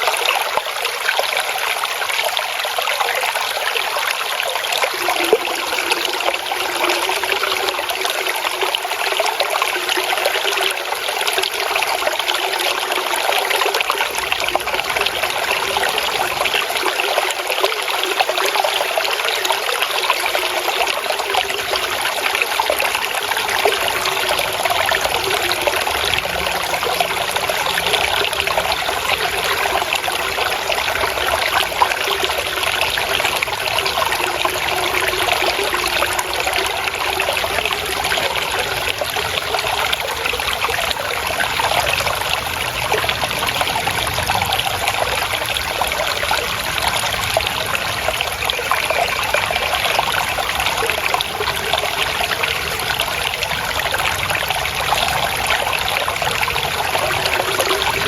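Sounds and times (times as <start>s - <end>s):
stream trickling and splashing: 0.0s - 58.0s.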